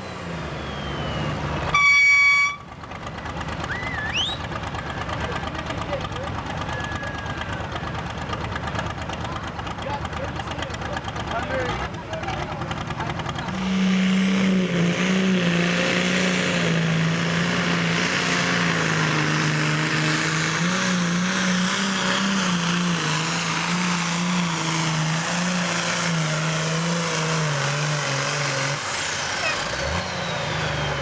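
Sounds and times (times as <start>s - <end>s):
tractor diesel engine at full throttle: 0.0s - 31.0s.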